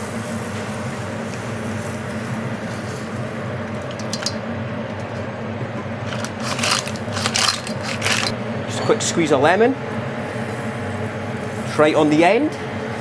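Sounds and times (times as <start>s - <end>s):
gas flame and steam hissing: 0.0s - 5.2s, 5.9s - 13.0s.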